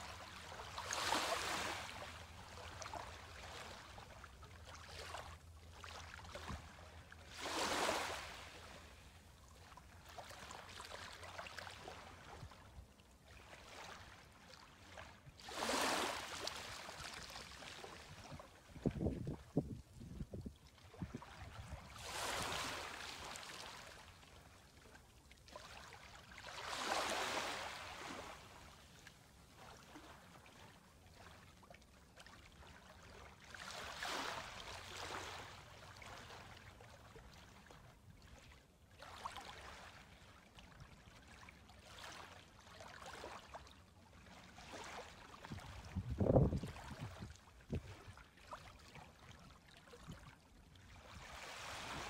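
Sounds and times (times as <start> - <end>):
small waves lapping on beach: 0.0 - 19.5, 20.6 - 52.0.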